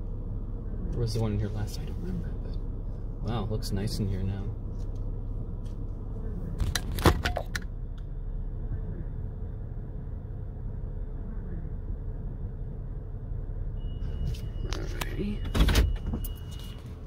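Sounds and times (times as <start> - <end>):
minivan engine rumble: 0.0 - 17.0.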